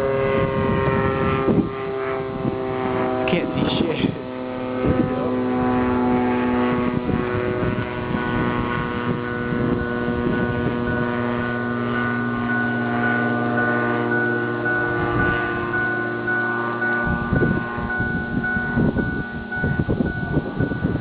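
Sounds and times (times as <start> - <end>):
ultralight aircraft engine droning: 0.0 - 21.0
wind buffeting microphone: 0.0 - 21.0.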